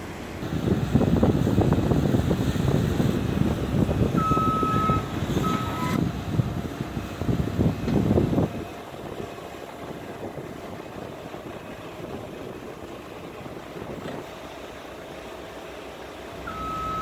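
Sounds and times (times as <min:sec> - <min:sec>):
forklift engine revving: 0:00.0 - 0:17.0.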